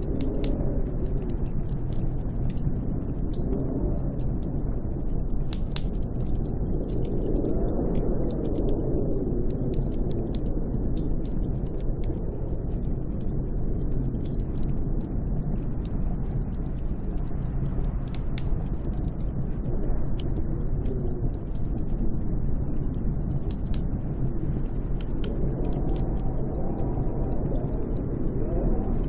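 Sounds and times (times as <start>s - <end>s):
small sharp crackles: 0.0s - 29.0s
wind blowing with deep rumble: 0.0s - 29.0s.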